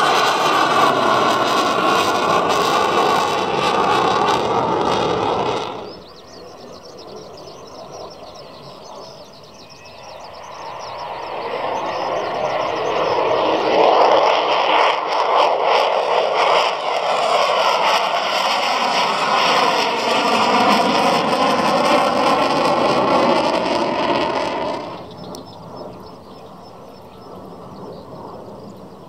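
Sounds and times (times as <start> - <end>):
fighter jet roar: 0.0 - 9.3, 10.0 - 29.0.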